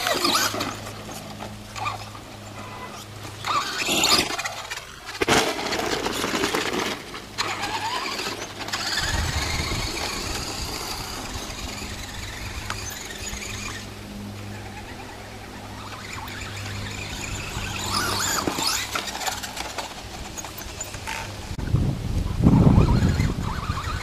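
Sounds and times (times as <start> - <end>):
electric motor whining: 0.0 - 21.6
tyres on dirt: 0.0 - 21.6, 22.8 - 24.0.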